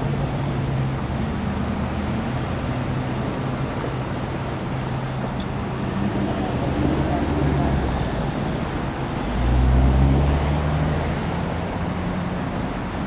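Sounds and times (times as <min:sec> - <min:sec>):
roadway traffic rush: 0:00.0 - 0:13.0
vehicle engines idling: 0:00.0 - 0:13.0.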